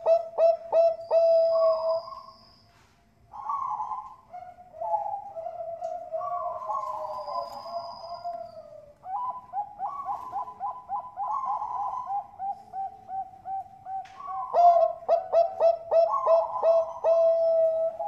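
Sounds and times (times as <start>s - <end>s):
dove cooing: 0.0s - 2.3s, 3.3s - 18.0s.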